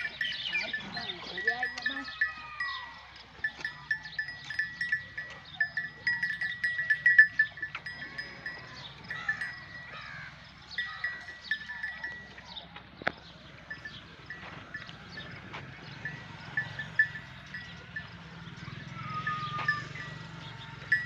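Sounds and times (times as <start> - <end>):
livestock calls: 0.0 - 12.7, 13.3 - 21.0.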